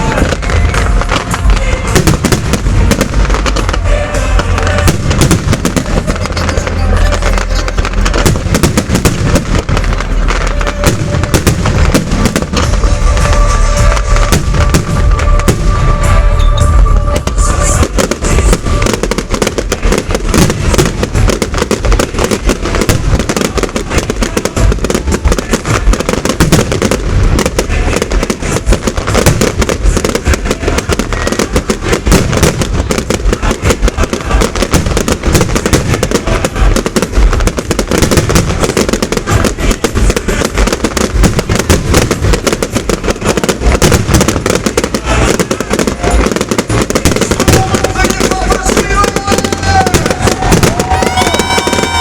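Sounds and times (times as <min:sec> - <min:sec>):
fireworks bangs and crackles: 0:00.0 - 0:52.0.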